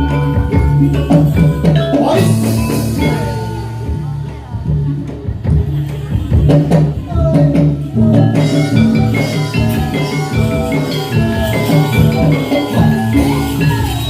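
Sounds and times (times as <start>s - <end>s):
metallophones ringing: 0.0s - 5.0s, 5.6s - 14.0s
drum strokes: 0.0s - 14.0s.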